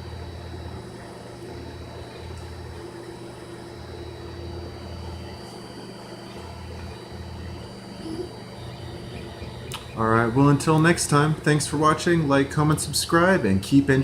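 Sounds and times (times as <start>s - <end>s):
three d printer motors humming: 0.0s - 14.0s.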